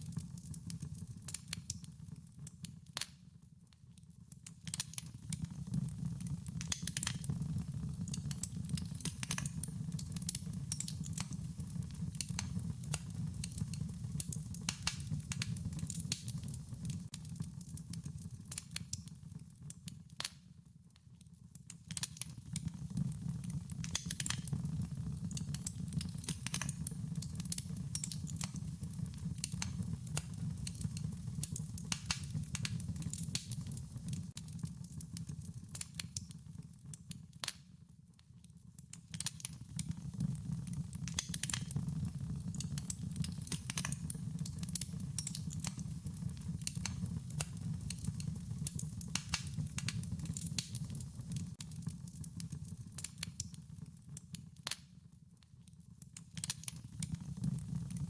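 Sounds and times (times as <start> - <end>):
wood fire crackling: 0.0 - 3.2, 4.3 - 20.4, 21.6 - 37.6, 38.8 - 54.9, 56.1 - 58.0.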